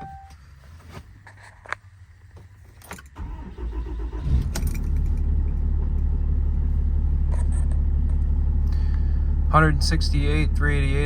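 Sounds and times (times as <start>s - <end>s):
diesel engine starting and idling: 2.0s - 11.0s.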